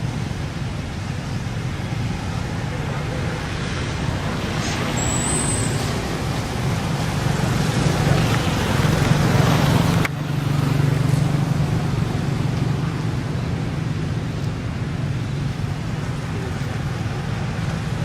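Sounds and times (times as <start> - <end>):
passing traffic engine hum: 0.0 - 18.0.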